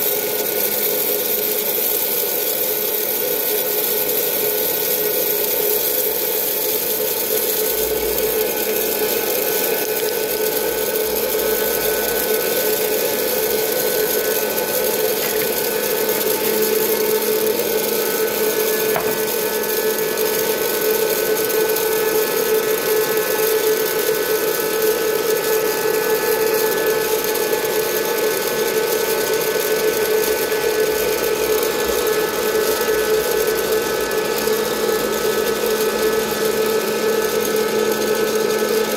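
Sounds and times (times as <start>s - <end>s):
popcorn popper fan whirring: 0.0s - 38.9s.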